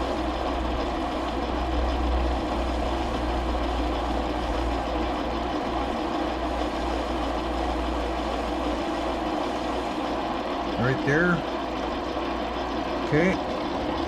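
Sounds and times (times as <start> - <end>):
metal lathe motor hum: 0.0 - 14.0.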